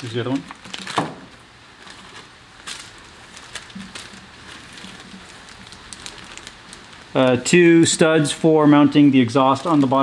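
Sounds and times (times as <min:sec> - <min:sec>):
plastic bags crinkling: 0:00.0 - 0:07.5, 0:09.3 - 0:10.0.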